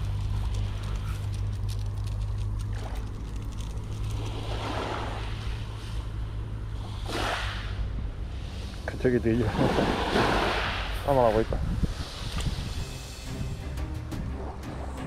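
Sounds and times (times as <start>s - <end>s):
sea waves washing on shore: 0.0s - 13.3s
steady low rumble: 0.0s - 15.0s.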